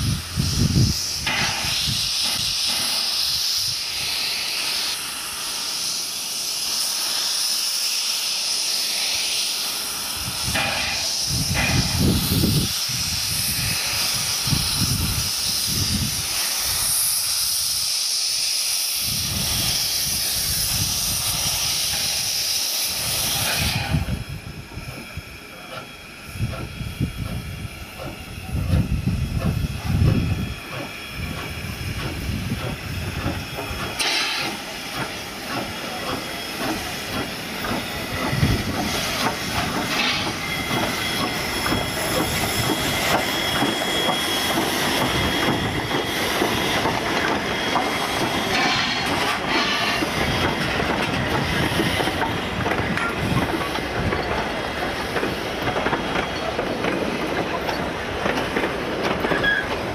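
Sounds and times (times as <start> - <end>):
steam hissing: 0.0 - 59.9
steam locomotive exhaust beats: 0.0 - 59.9
train wheels and coaches running: 0.0 - 59.9.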